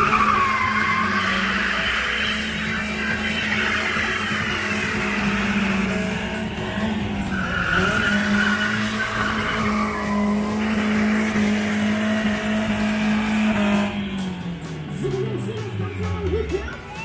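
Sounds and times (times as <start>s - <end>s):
tyres spinning and squealing: 0.0s - 14.6s
car engine revving high: 0.0s - 16.0s.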